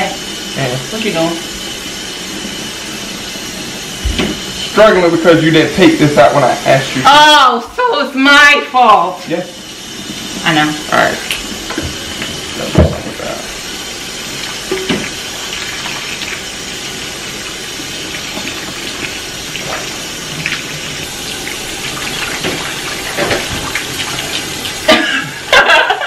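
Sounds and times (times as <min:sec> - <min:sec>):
faucet running into sink: 0:00.0 - 0:07.4, 0:08.3 - 0:26.0.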